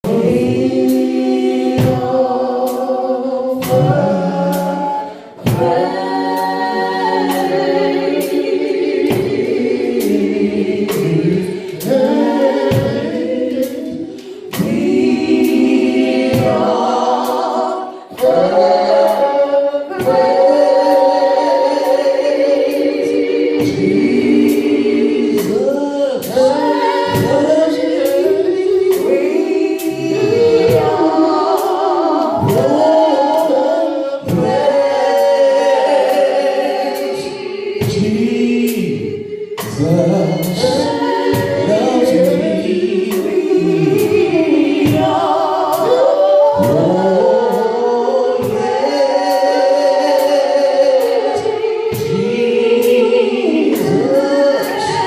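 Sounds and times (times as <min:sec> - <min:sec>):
choir singing gospel: 0:00.0 - 0:55.0.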